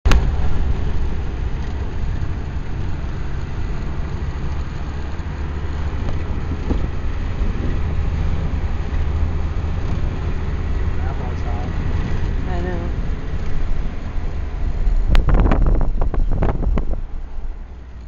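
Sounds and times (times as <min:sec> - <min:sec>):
car engine running: 0:00.0 - 0:18.0
road and wind noise: 0:00.0 - 0:18.0.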